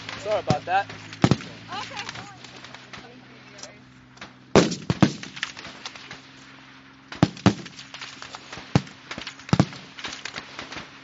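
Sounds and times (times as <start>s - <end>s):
rifle shots: 0.0s - 3.2s, 4.2s - 6.5s, 7.1s - 11.0s.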